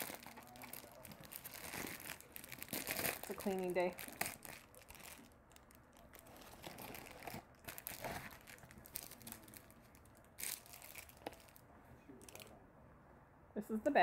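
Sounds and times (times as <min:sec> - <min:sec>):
packaging crinkling and rustling: 0:00.0 - 0:12.5.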